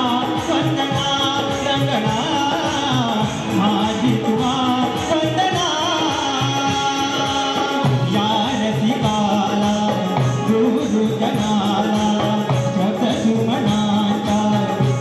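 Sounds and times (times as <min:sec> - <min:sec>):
hand-drum strokes: 0:00.0 - 0:15.0
man singing: 0:00.0 - 0:15.0.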